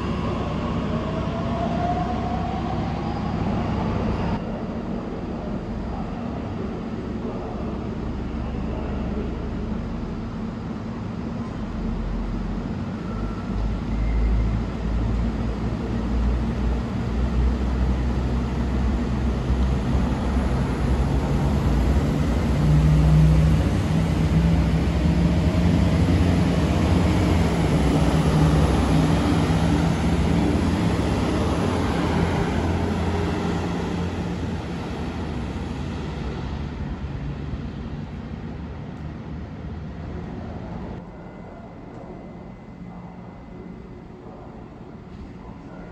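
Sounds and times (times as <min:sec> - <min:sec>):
diesel train engine passing: 0:00.0 - 0:45.9.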